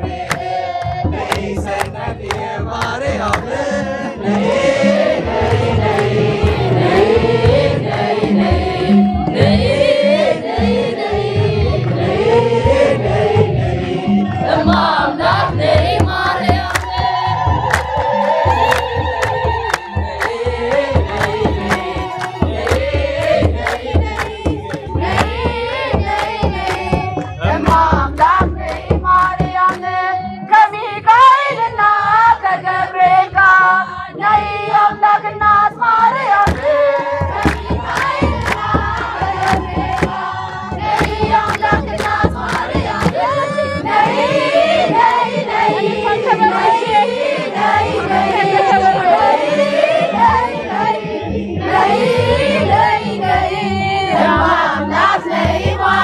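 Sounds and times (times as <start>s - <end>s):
steady percussive beat: 0.0s - 30.4s, 36.3s - 56.0s
group singing church song: 0.0s - 56.0s.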